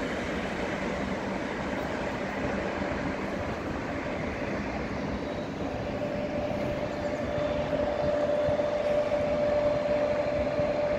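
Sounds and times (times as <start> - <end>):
diesel locomotive engine humming: 0.0 - 10.9.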